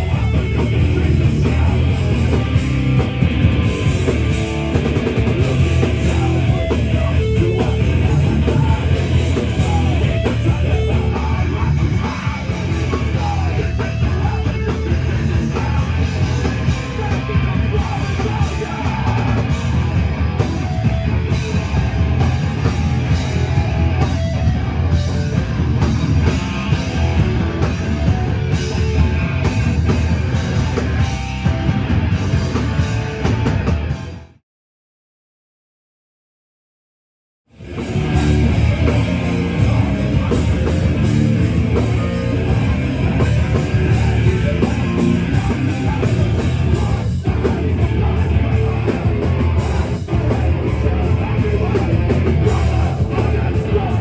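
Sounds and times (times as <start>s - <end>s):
punk band playing live: 0.0s - 34.4s, 37.5s - 54.0s.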